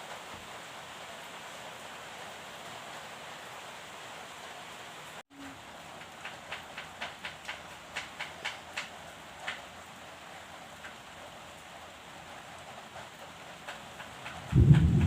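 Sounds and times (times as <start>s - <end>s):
faint steady hiss: 0.0s - 14.3s.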